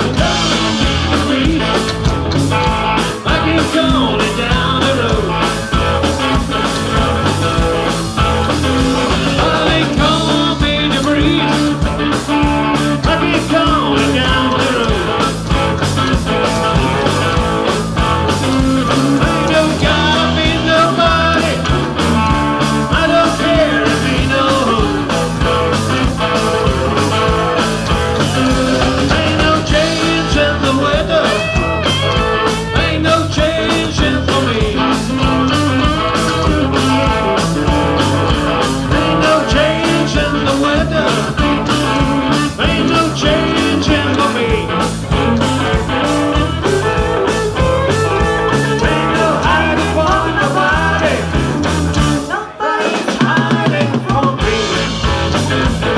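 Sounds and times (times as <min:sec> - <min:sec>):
bass guitar: 0:00.0 - 0:55.9
drum kit: 0:00.0 - 0:55.9
electric guitars: 0:00.0 - 0:55.9.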